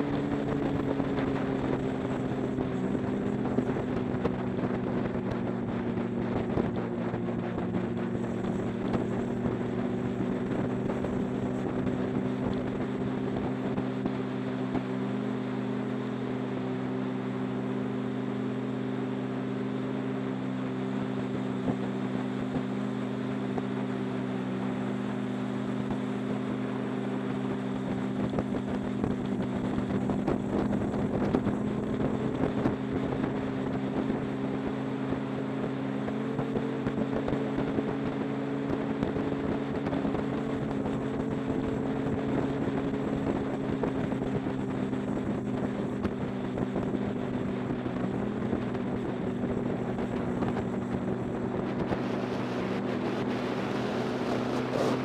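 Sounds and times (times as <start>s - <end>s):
wind on microphone: 0.0s - 15.6s, 20.8s - 55.0s
motorcycle engine drone: 0.0s - 55.0s.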